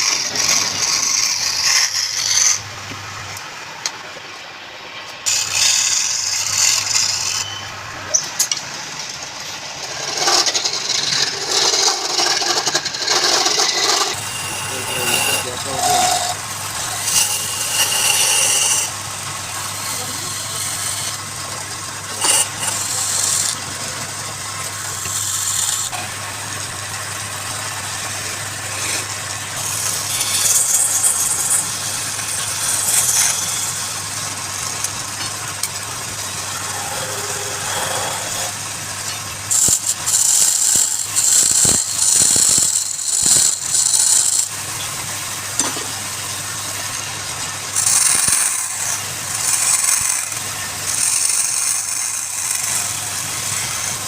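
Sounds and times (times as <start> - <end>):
wood lathe motor running: 0.0 - 3.5, 5.3 - 54.0
turning tool cutting wood: 0.0 - 4.0, 5.2 - 54.0.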